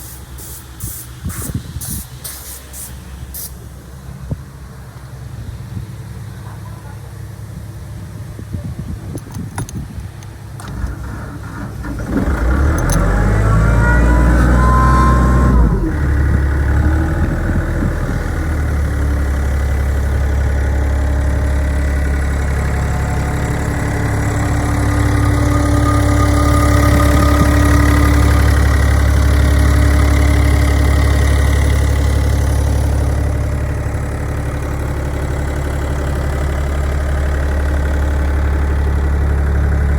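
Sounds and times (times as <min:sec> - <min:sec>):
diesel compressor engine: 0:00.0 - 0:39.9.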